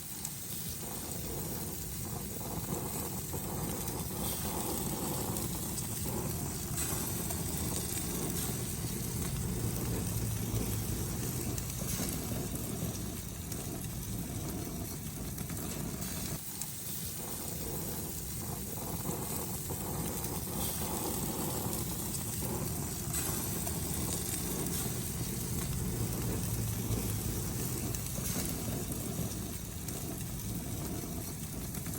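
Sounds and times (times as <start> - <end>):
fish sizzling on a grill: 0.0 - 31.9
low steady rumble: 0.7 - 16.4, 17.1 - 31.9.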